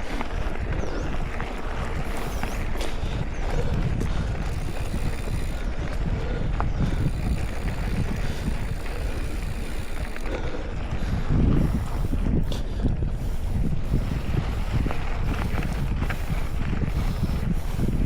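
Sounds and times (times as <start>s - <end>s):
bike clicks and rattles: 0.0s - 18.0s
bike tyre noise: 0.0s - 18.0s
wind rush on microphone: 0.0s - 18.0s.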